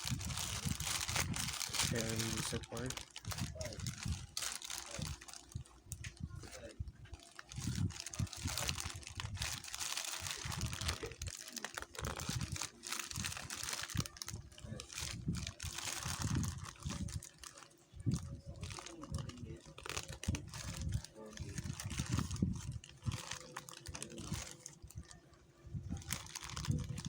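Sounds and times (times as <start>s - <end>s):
plastic mailer crinkling and ripping: 0.0s - 5.7s, 6.5s - 25.2s, 25.9s - 27.0s.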